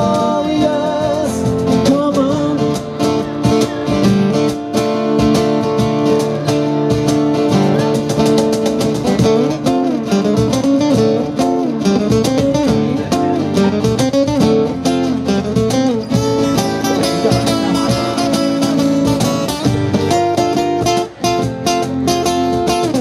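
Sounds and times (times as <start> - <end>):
cajon beat: 0.0 - 23.0
guitar melody: 0.0 - 23.0
strummed acoustic guitars: 0.0 - 23.0.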